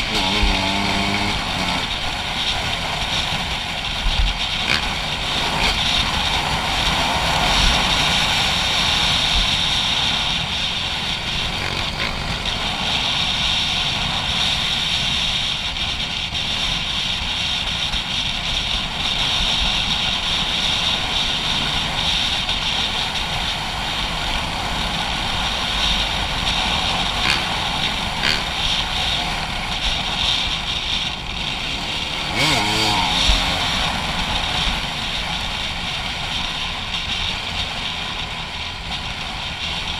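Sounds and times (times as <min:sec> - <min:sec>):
dirt bike engine running: 0:00.0 - 0:39.9
wind rush on microphone: 0:00.0 - 0:39.9.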